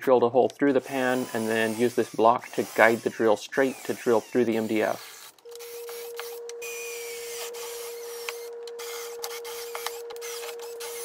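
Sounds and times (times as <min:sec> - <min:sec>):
cordless drill boring through metal: 0:00.7 - 0:11.0
sharp ticks from drill bit: 0:00.9 - 0:11.0.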